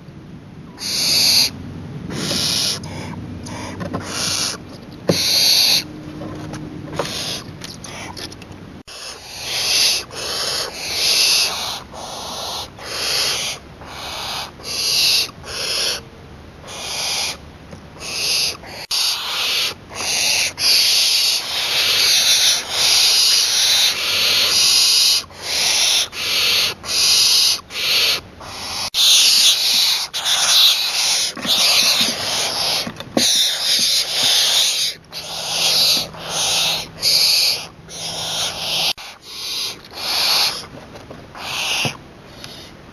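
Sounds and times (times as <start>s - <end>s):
young owl hissing calls: 0.8s - 5.8s, 7.0s - 8.2s, 8.9s - 16.0s, 16.6s - 17.4s, 18.0s - 40.7s, 41.4s - 42.8s.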